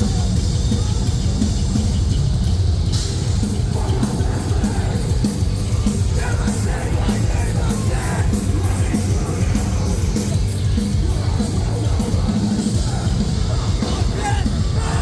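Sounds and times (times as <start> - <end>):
bass: 0.0 - 15.0
distorted guitars: 0.0 - 15.0
drums and cymbal hits: 0.0 - 15.0
yelled vocals: 2.9 - 15.0.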